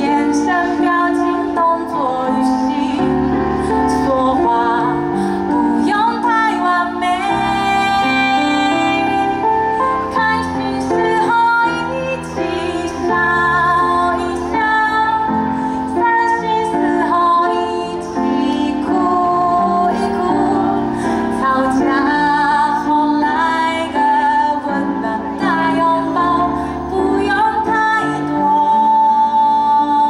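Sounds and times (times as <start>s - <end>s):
instrumental backing music: 0.0s - 30.0s
woman singing with vibrato: 0.0s - 30.0s.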